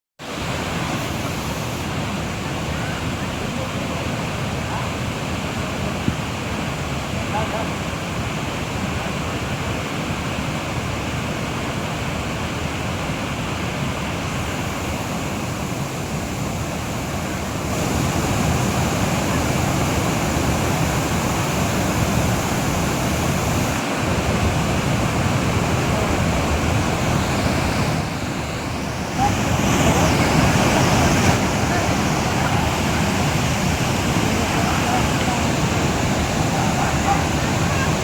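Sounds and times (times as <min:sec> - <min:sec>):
waterfall rushing: 0:00.2 - 0:38.0.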